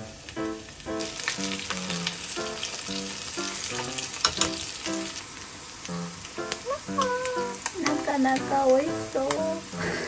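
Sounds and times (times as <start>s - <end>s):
fish frying in hot oil: 0.0s - 10.0s.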